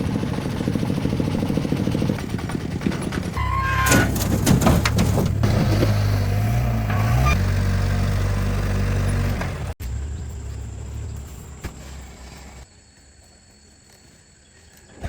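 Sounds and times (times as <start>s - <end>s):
truck engine running: 0.0s - 12.6s.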